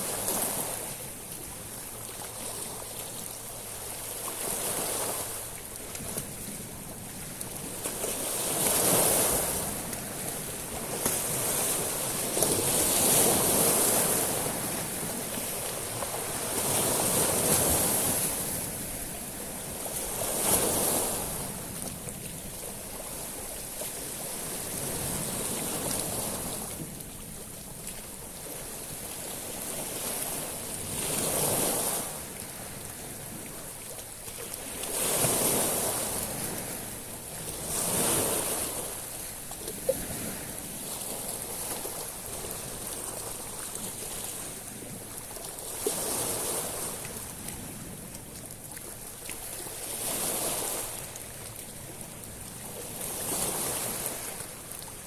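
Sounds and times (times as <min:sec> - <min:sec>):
waves washing over shingle: 0:00.0 - 0:55.0.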